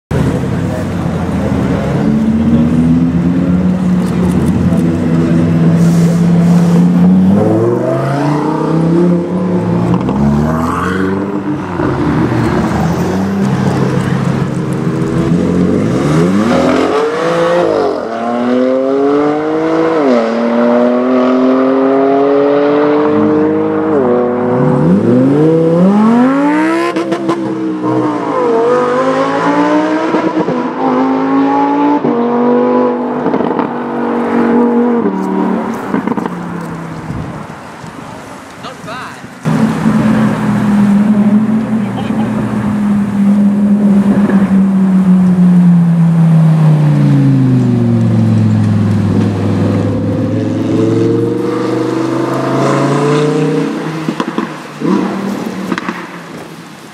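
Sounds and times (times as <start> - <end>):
sports car engine accelerating: 0.2 - 37.5, 39.4 - 56.7.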